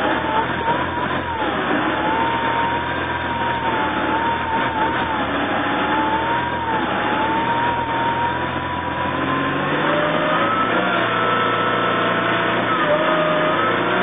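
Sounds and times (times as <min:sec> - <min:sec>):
supercharged car engine whine: 0:00.0 - 0:14.0.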